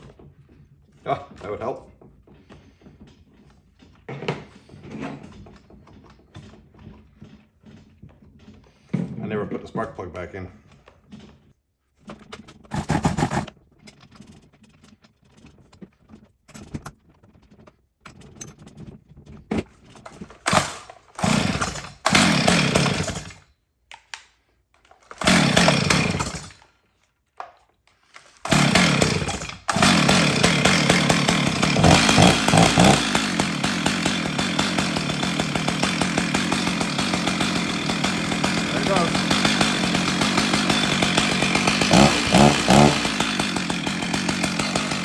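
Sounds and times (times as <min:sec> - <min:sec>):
chainsaw pull-starting and running: 0:00.0 - 0:45.0.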